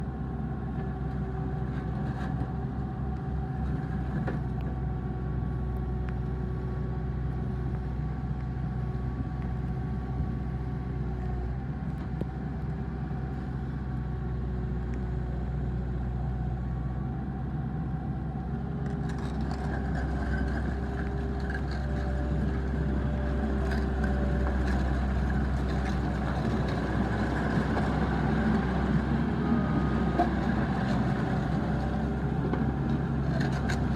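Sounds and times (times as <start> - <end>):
skid steer engine running: 0.0 - 33.9.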